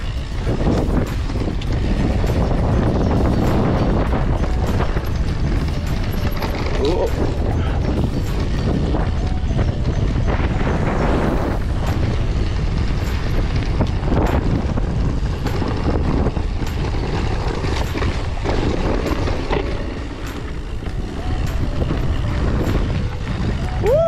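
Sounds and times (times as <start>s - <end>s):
bike clicks and rattles: 0.0s - 24.0s
wind buffeting microphone: 0.0s - 24.0s.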